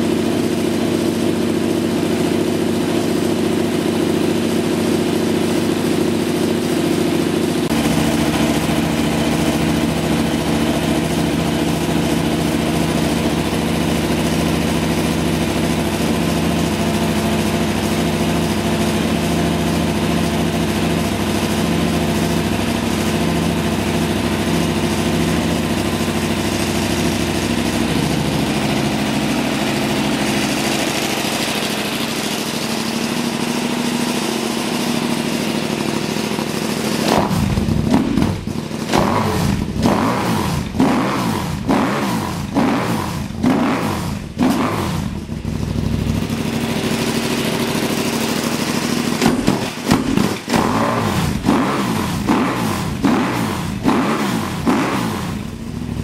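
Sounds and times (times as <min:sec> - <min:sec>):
motorcycle engine idling: 0:00.0 - 0:56.0
motorcycle throttle revving: 0:00.0 - 0:56.0.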